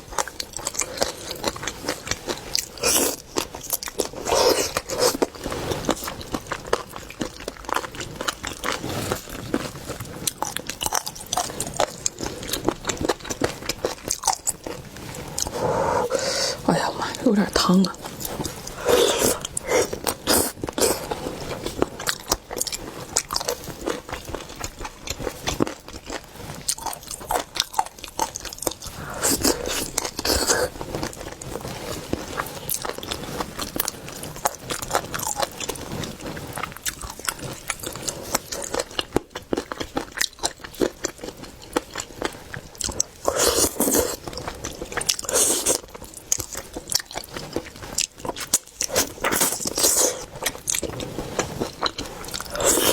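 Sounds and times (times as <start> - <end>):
crunching and chewing food: 0.0 - 52.9.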